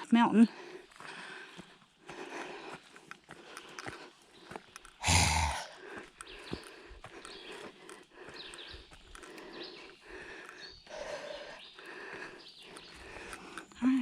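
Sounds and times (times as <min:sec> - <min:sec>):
footsteps on a trail: 0:00.0 - 0:14.0
person breathing: 0:00.5 - 0:14.0.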